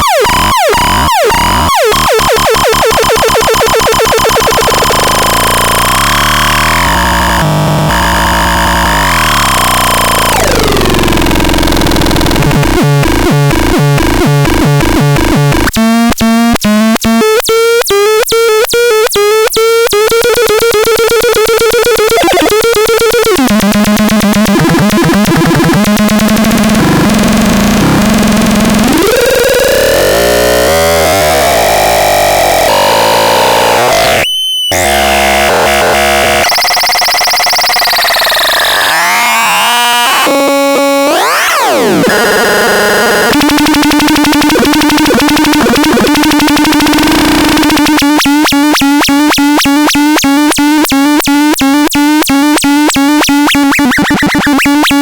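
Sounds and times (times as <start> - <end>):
harsh synthesizer noise: 0.0 - 16.0, 20.2 - 55.0.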